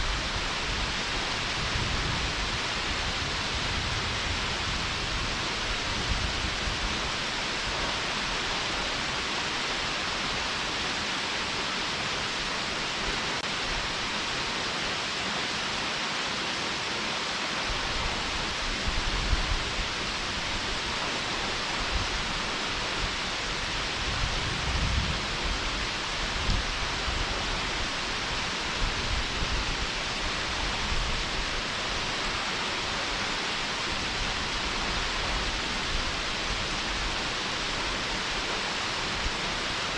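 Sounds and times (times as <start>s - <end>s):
stream rushing water: 0.0s - 39.9s.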